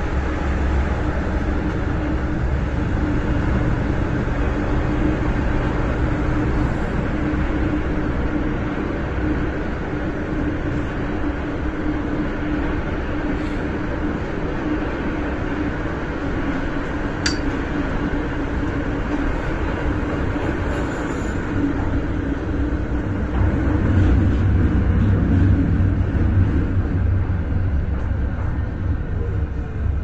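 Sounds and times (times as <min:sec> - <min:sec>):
constant hum: 0:00.0 - 0:30.0
train wheels rumbling on rail: 0:00.0 - 0:30.0.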